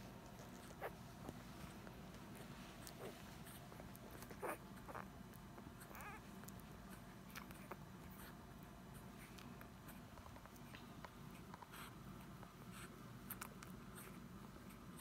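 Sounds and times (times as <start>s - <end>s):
quiet room hum: 0.0s - 15.0s.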